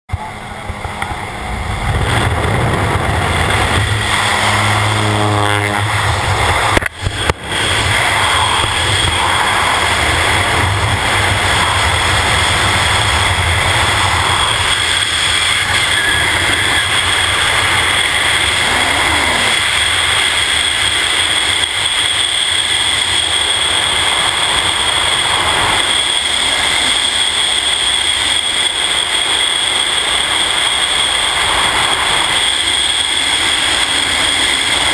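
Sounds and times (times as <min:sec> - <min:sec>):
propeller plane engine: 0:00.1 - 0:34.9
wind rushing: 0:00.7 - 0:34.9.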